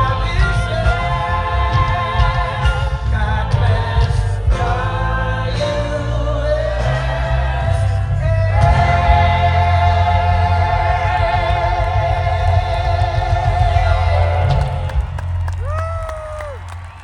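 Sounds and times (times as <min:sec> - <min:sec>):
choir singing long notes: 0:00.0 - 0:15.2
band with heavy bass: 0:00.0 - 0:17.0.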